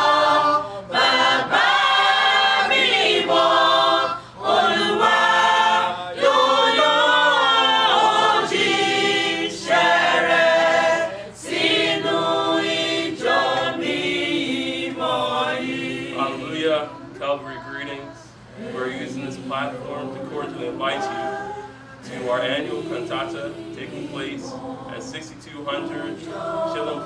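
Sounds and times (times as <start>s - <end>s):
mixed choir singing unaccompanied: 0.0s - 27.0s.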